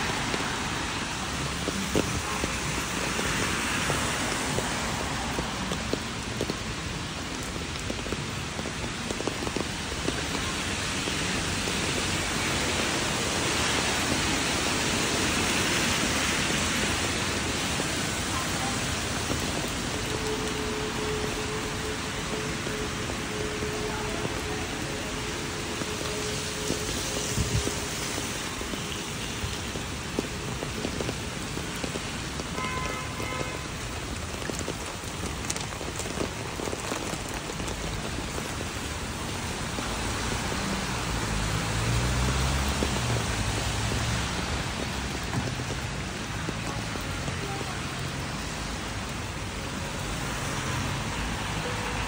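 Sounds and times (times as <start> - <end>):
rain on wet pavement: 0.0 - 52.0.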